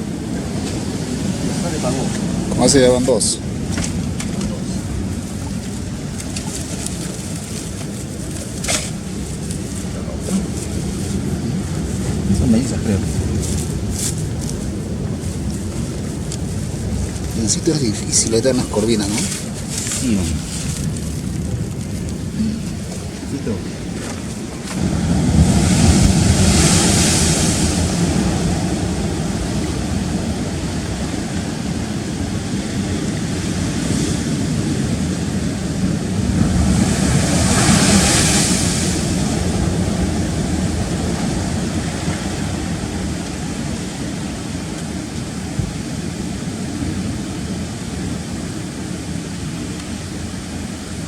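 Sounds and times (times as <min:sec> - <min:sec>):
rough sea breaking on rocks: 0:00.0 - 0:51.0
waves crashing with hissing rush: 0:00.0 - 0:51.0.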